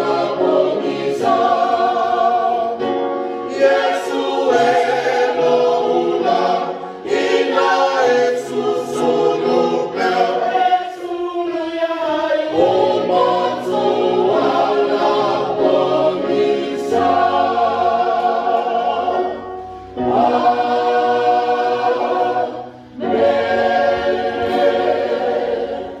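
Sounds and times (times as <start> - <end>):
congregation singing a hymn: 0.0 - 26.0.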